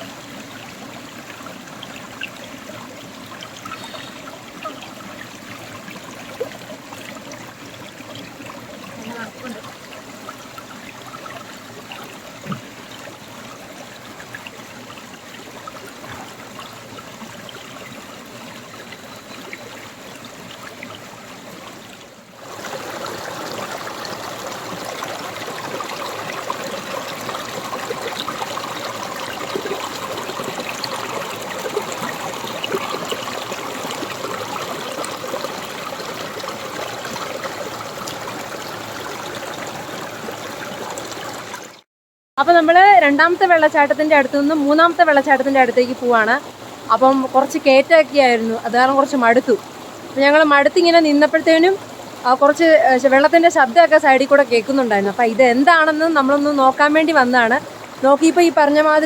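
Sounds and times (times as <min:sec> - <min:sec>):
stream trickling over stones: 0:00.0 - 0:41.8, 0:42.5 - 0:59.0.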